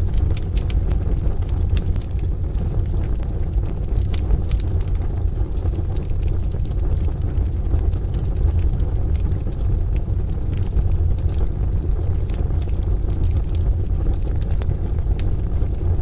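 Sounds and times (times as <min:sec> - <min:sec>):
rain rumble: 0:00.0 - 0:16.0
wood fire crackling and popping: 0:00.0 - 0:16.0.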